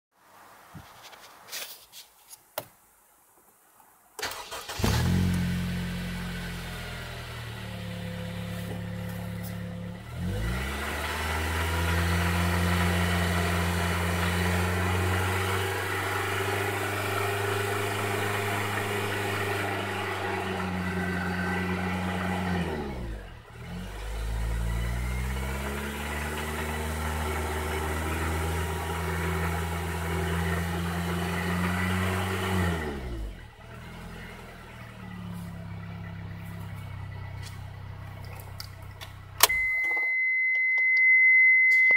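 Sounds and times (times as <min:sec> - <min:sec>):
car engine revving: 0:04.2 - 0:39.5.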